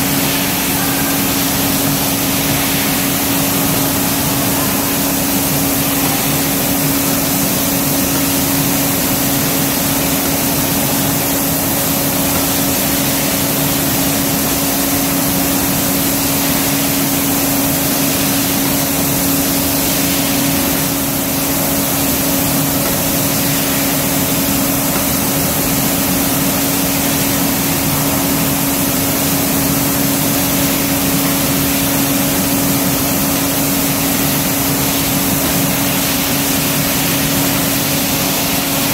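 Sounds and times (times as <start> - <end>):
spray hissing: 0.0 - 38.9.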